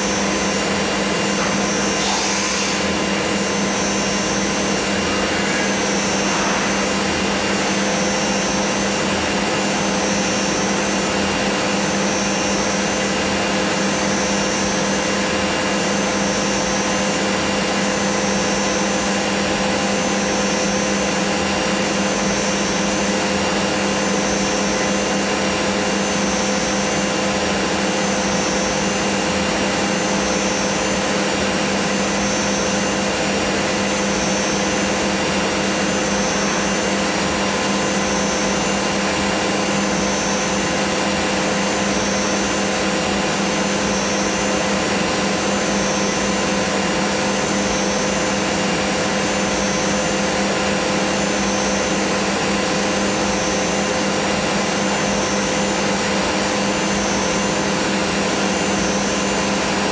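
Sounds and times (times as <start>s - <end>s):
milling machine spindle hum and whine: 0.0s - 59.9s.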